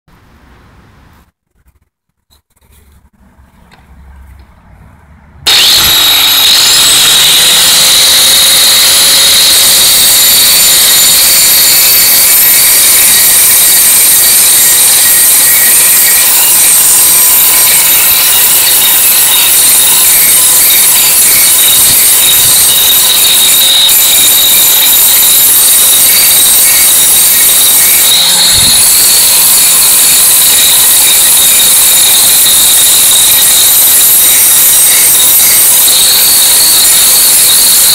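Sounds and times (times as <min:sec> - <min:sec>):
angle grinder grinding steel: 0:05.5 - 0:37.9.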